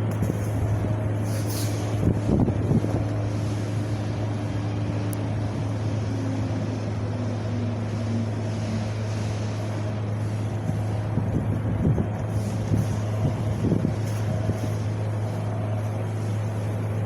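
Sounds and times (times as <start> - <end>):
steady low drone: 0.0 - 17.0
wind rumbling on microphone: 0.0 - 17.0.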